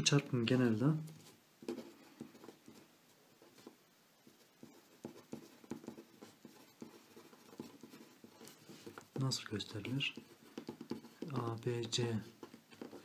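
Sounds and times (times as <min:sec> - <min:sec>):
pen scratching on paper: 0:00.6 - 0:13.0.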